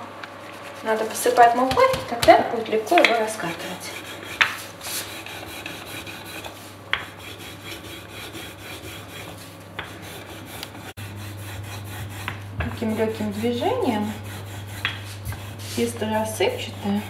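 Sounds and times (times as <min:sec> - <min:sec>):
rolling pin rubbing on dough: 0:00.4 - 0:17.0.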